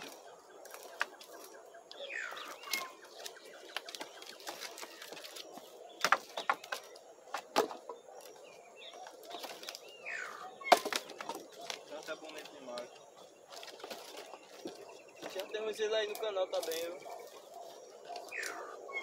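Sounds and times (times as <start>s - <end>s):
faint rural background: 0.0s - 19.0s.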